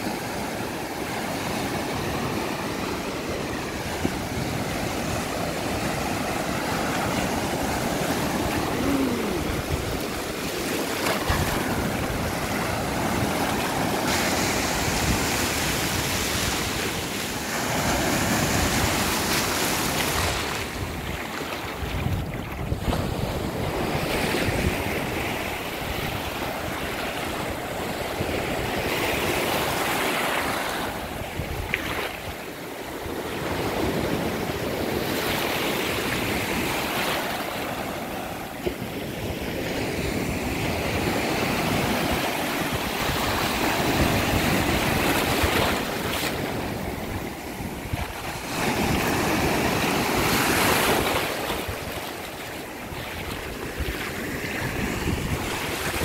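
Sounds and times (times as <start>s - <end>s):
small waves breaking on sand: 0.0s - 56.0s.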